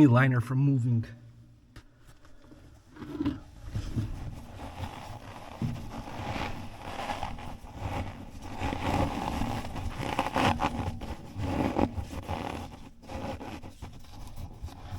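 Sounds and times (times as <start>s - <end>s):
insulation rustling and scraping: 1.7s - 14.9s.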